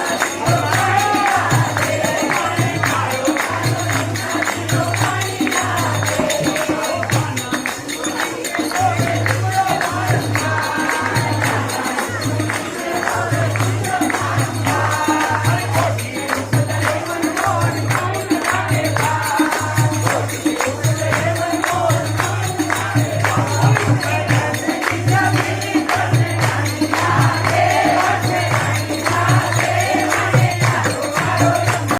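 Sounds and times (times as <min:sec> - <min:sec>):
jingling tambourine-like percussion: 0:00.0 - 0:31.9
steady drum beat: 0:00.0 - 0:31.9.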